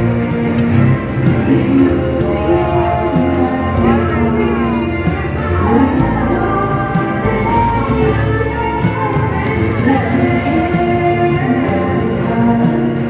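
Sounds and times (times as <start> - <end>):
loud music with beat and guitar: 0.0 - 13.0.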